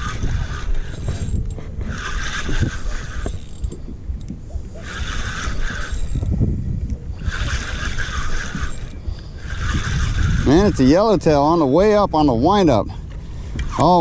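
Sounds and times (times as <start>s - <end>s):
fishing reel gears whirring: 0.0s - 14.0s.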